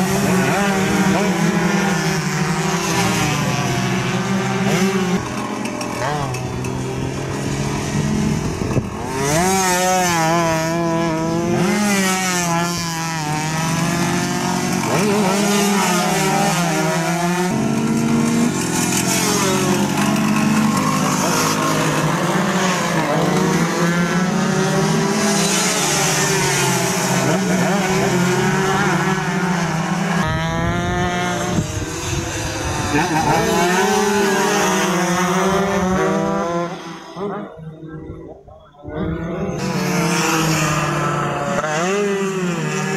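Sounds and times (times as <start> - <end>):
two-stroke motorcycles revving: 0.0 - 42.9.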